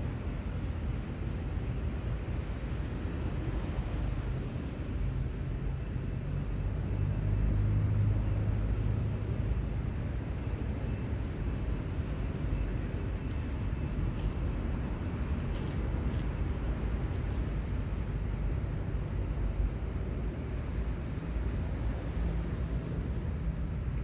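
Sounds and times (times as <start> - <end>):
outdoor background noise: 0.0 - 24.0.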